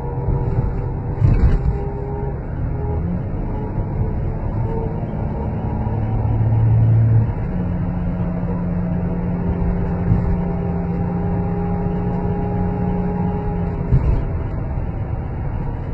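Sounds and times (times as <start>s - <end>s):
car engine running: 0.0s - 15.9s
car whining: 0.0s - 15.9s.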